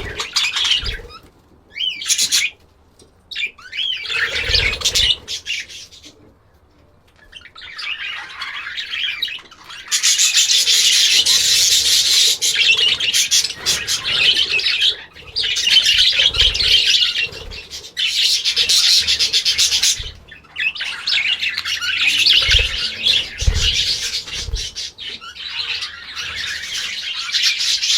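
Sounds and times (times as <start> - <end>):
many birds chattering: 0.0 - 27.9.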